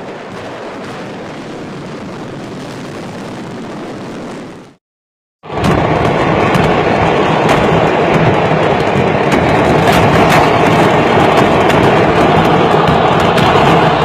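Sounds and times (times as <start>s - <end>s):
fireworks crackling and popping: 0.0s - 4.8s, 5.4s - 14.0s.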